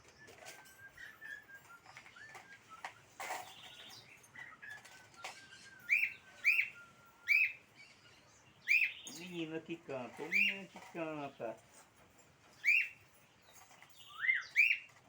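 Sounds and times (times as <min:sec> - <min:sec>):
small bird singing: 0:00.0 - 0:11.7, 0:12.5 - 0:15.0.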